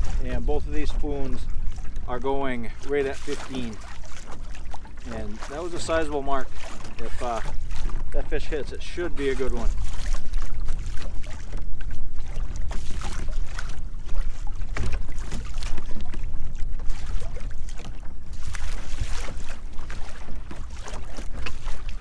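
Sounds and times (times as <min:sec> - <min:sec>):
water lapping against kayak hull: 0:00.0 - 0:22.0
wind buffeting microphone: 0:00.0 - 0:22.0.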